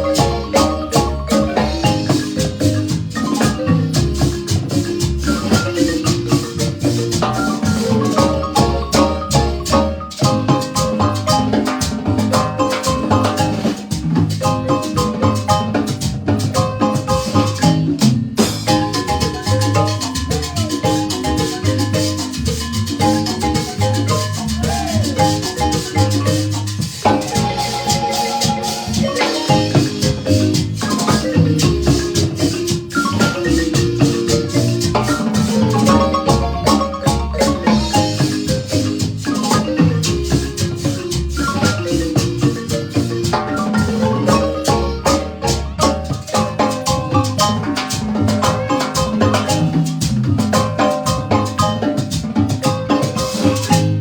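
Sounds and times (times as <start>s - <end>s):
marimba band playing: 0.0s - 54.0s
percussion: 0.0s - 54.0s
steady bass line: 0.0s - 54.0s.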